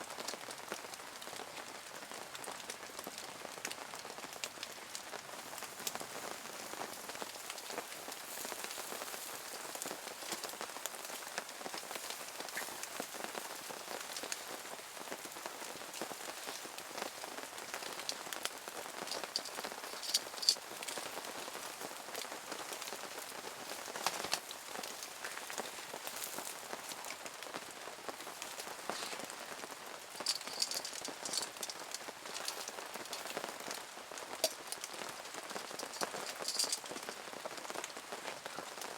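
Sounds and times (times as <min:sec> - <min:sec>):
louder raindrops: 0:00.0 - 0:38.9
steady rain falling: 0:00.0 - 0:38.9.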